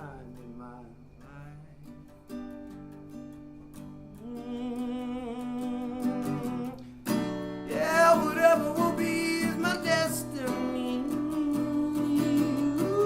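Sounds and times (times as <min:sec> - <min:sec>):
person singing wordless melody: 0:00.0 - 0:02.0, 0:04.0 - 0:13.0
acoustic guitar: 0:00.0 - 0:13.0.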